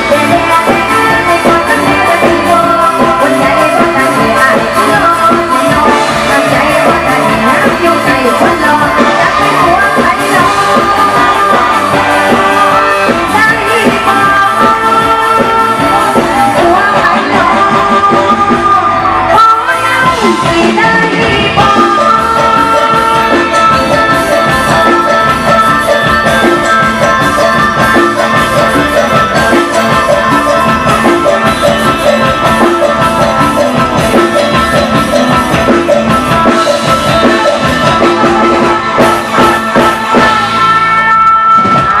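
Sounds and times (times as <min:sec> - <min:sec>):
drum kit beat: 0:00.0 - 0:42.0
melodic instrument lines: 0:00.0 - 0:42.0
person singing: 0:00.0 - 0:42.0.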